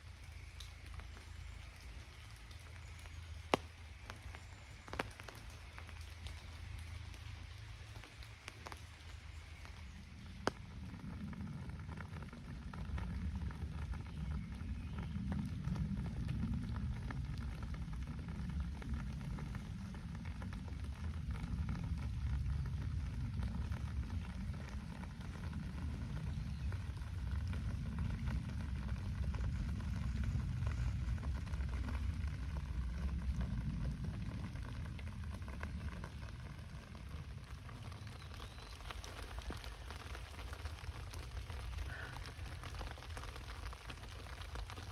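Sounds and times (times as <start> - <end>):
steady rain falling: 0.0 - 44.9
low rumble: 5.5 - 44.9.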